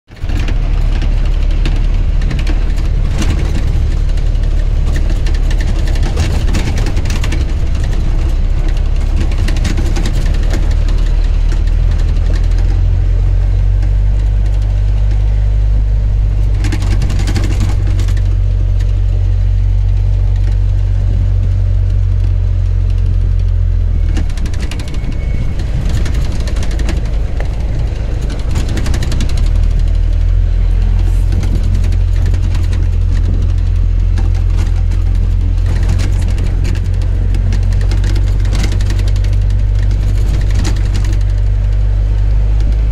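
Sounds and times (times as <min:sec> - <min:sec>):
engine and road drone: 0:00.0 - 0:42.9.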